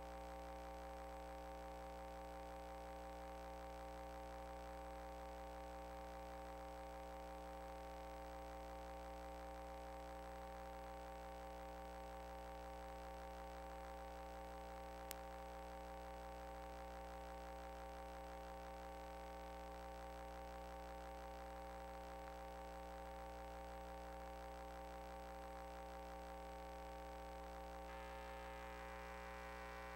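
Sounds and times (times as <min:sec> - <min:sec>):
electrical hum and buzz: 0:00.0 - 0:29.9.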